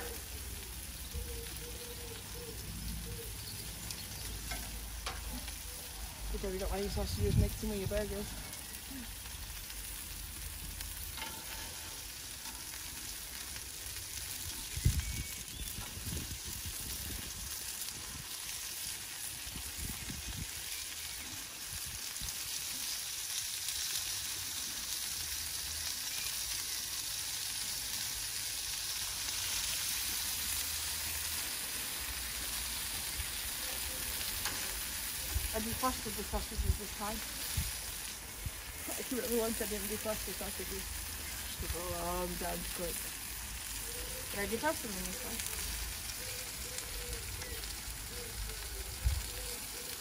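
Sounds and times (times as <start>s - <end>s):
meat sizzling on grill: 0.0s - 50.0s.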